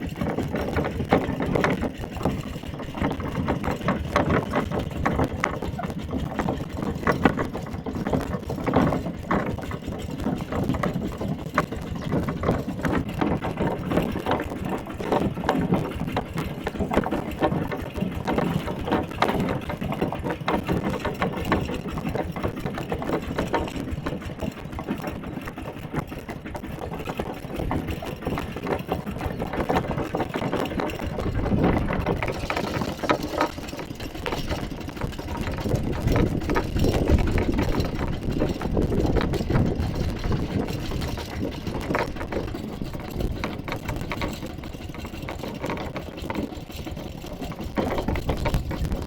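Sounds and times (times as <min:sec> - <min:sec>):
tractor engine chattering: 0:00.0 - 0:49.0.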